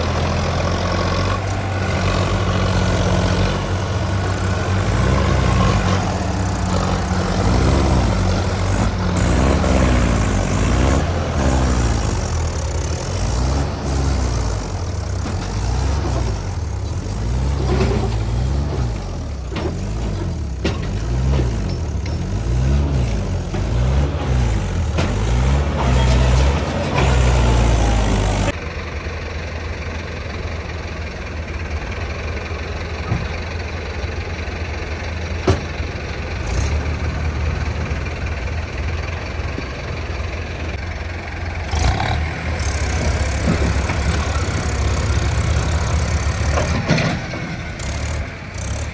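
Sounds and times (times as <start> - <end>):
tractor diesel engines revving: 0.0 - 48.9.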